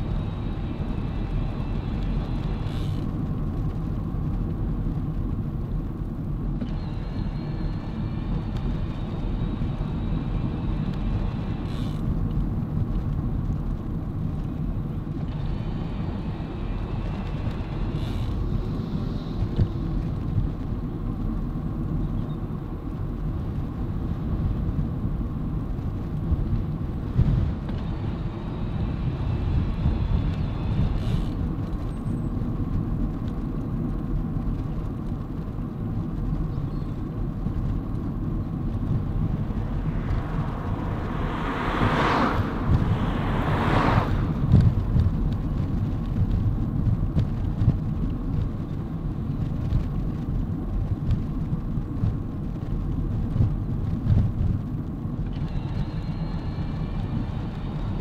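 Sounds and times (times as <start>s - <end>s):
bicycle tyres rolling on tarmac: 0.0s - 58.0s
wind on microphone: 0.0s - 58.0s.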